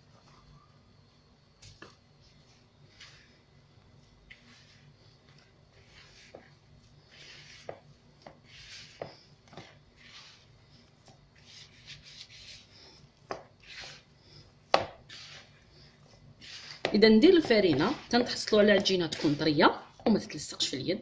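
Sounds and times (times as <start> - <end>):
hand squishing dough: 1.5 - 20.6.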